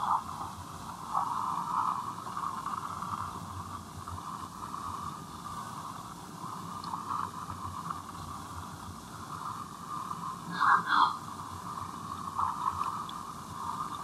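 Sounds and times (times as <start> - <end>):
tape hiss and line noise: 0.0 - 14.0.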